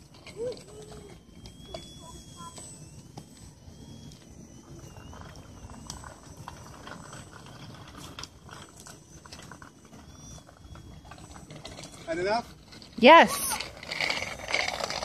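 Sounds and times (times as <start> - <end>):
rc plane motor whine: 0.0 - 15.0.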